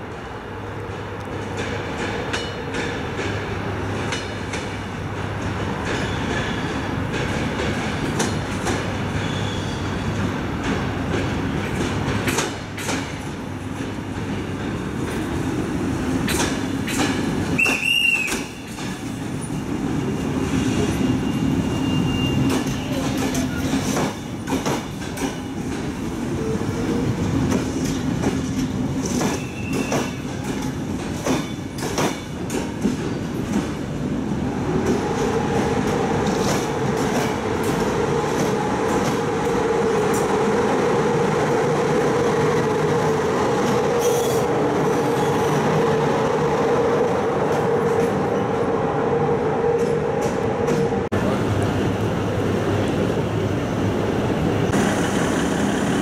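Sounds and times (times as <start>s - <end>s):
train coaches rumbling past: 0.0s - 56.0s.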